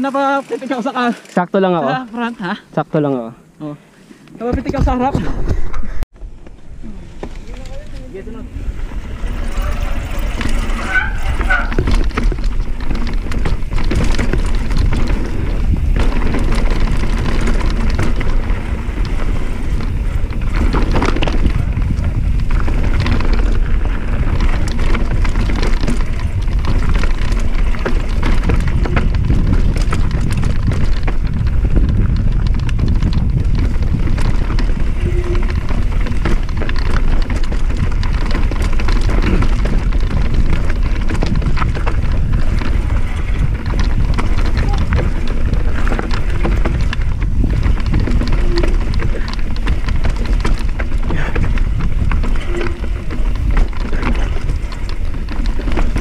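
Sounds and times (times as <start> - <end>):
bike rattling over bumps: 0.0 - 2.6, 4.4 - 56.0
wind and tyre rumble: 0.0 - 56.0.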